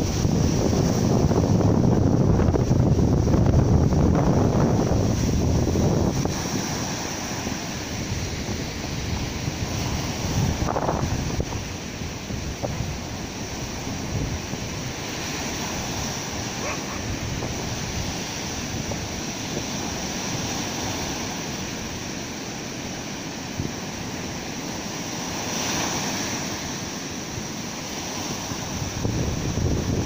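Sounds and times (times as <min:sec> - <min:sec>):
waves washing up beach: 0:00.0 - 0:30.0.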